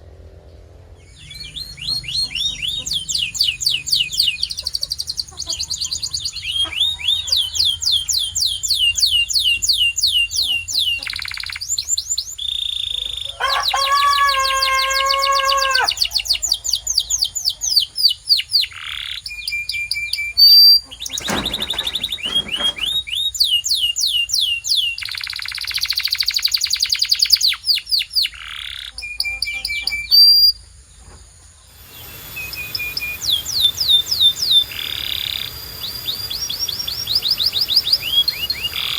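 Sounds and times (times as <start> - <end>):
canary singing trills: 1.1 - 30.6, 31.7 - 38.9.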